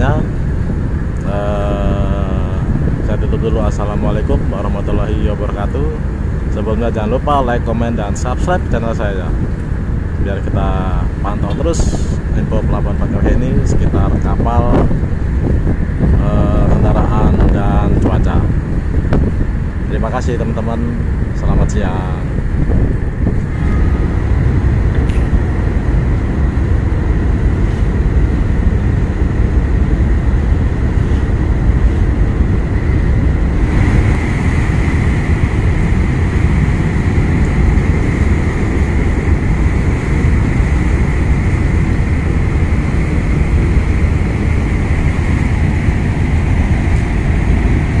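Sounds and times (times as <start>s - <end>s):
faint steady whine: 0.0s - 48.0s
propellers churning water: 0.0s - 48.0s
ship engines low rumble: 0.0s - 48.0s.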